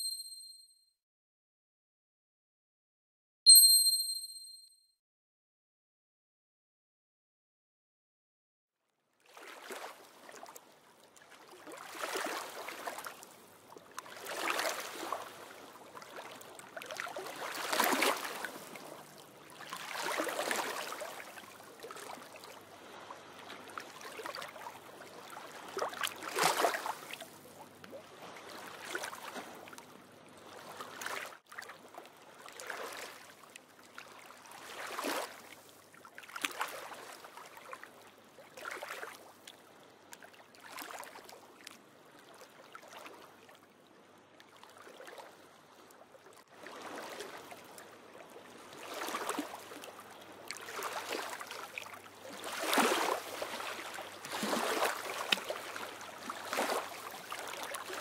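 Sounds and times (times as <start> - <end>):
small waves washing ashore: 9.2 - 43.6, 44.5 - 58.0.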